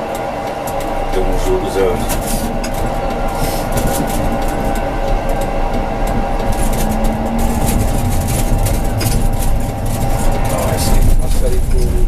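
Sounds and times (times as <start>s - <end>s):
low motor whine: 0.0s - 12.0s
tram rumbling on rails: 0.0s - 12.0s.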